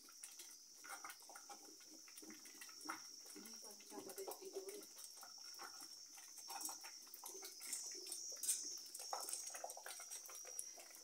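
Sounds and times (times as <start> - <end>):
thick sauce bubbling and popping: 0.0 - 11.0
wooden spoon stirring: 0.0 - 11.0.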